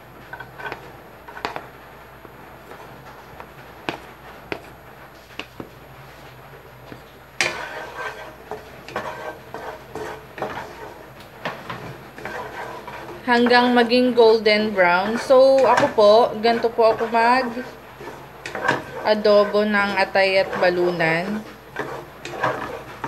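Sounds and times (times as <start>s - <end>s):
wooden spatula scraping a wok: 0.0s - 23.0s.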